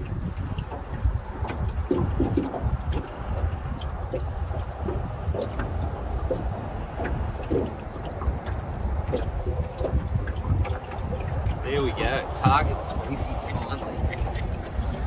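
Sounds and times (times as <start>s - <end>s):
steady low rumble: 0.0s - 15.0s
waves lapping against boat hull: 0.0s - 15.0s.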